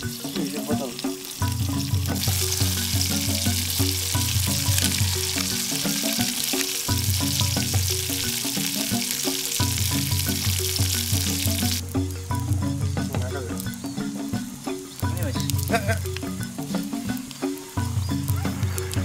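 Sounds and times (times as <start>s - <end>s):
fish sizzling in hot oil: 0.0s - 12.5s, 13.6s - 19.0s
background music with bass line: 0.0s - 19.0s.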